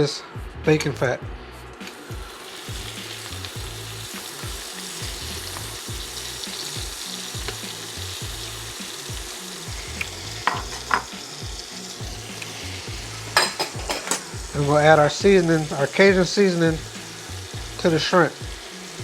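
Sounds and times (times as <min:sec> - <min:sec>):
shrimp sizzling in a pan: 0:01.9 - 0:19.0.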